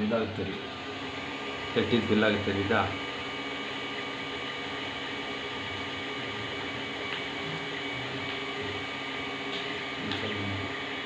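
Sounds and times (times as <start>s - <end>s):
printer whirring: 0.0s - 11.0s.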